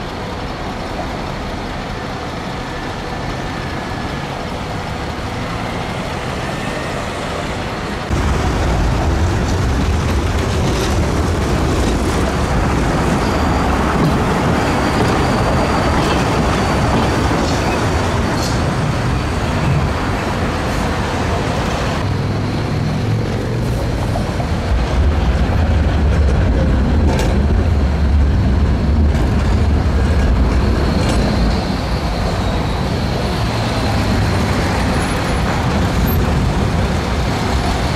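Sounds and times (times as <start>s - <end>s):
traffic and tram rumble: 0.0s - 37.9s.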